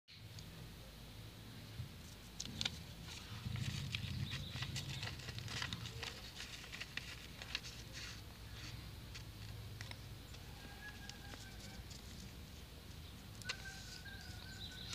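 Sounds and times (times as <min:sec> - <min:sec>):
paper being folded and creased: 0:02.0 - 0:14.9.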